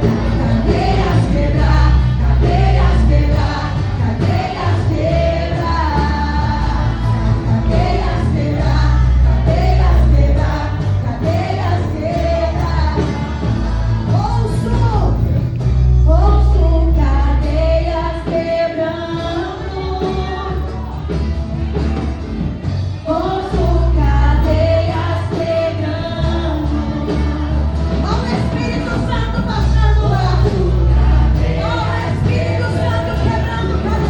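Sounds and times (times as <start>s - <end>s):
band with heavy bass: 0.0s - 34.0s
voices singing together: 0.0s - 34.0s.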